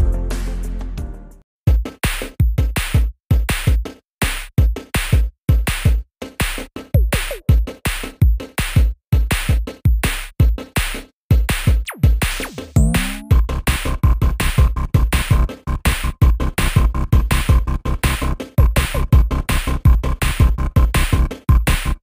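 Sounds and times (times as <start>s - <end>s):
electronic music with drum-machine beat: 0.0s - 22.0s.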